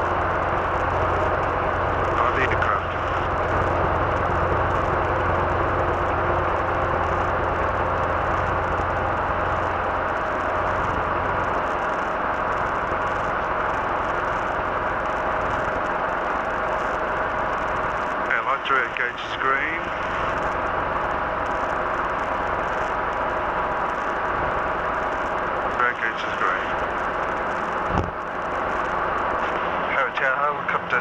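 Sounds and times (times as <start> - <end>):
helicopter cabin drone: 0.0 - 31.0
low hum: 0.0 - 31.0.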